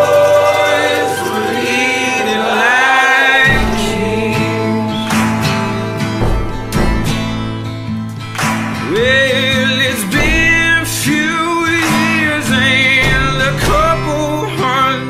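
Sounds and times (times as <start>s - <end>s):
man singing: 0.0s - 6.7s, 8.8s - 15.0s
guitar: 0.0s - 15.0s
heavy drum beats: 0.0s - 15.0s.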